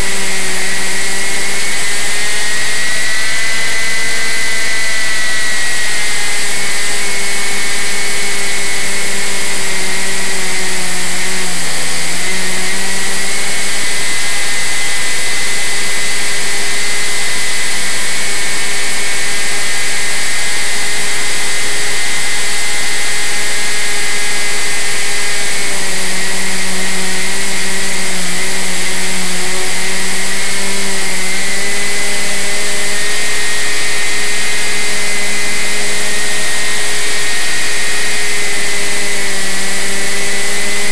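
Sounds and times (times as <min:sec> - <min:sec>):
model airplane motor and propeller: 0:00.0 - 0:40.9.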